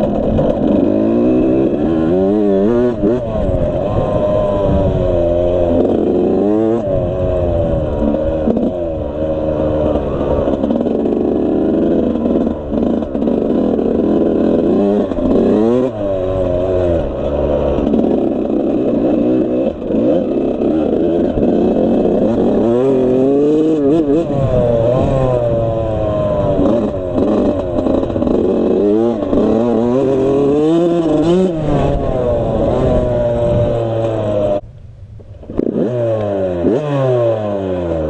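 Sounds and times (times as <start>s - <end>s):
dirt bike engine revving: 0.0s - 34.6s, 35.4s - 38.0s.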